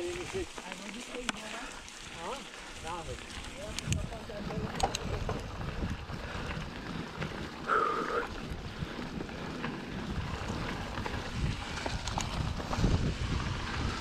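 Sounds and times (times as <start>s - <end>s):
bike tyre rumble on dirt: 0.0s - 14.0s
wind buffeting microphone: 2.0s - 14.0s.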